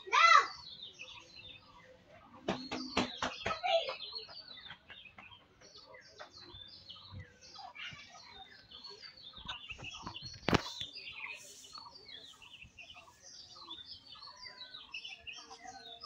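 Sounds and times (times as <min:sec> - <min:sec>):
birds chirping and clucking: 0:00.0 - 0:16.0.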